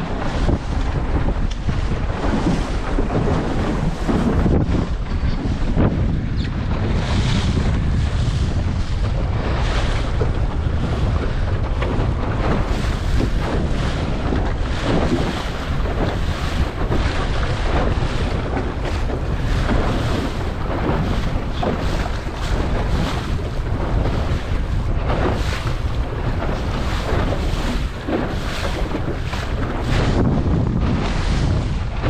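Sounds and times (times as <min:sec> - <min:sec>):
waves splashing against hull: 0:00.0 - 0:32.0
wind buffeting microphone: 0:00.0 - 0:32.0.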